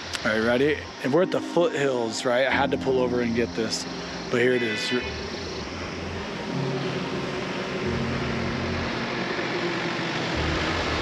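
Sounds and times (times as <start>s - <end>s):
constant hiss: 0.0s - 11.0s
vehicle engine humming: 0.0s - 11.0s.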